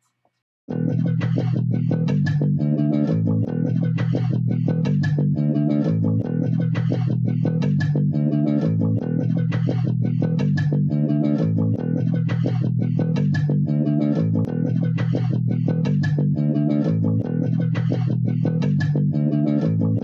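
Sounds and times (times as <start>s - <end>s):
guitar notes: 0.7s - 20.0s
plucked bass guitar: 0.7s - 20.0s.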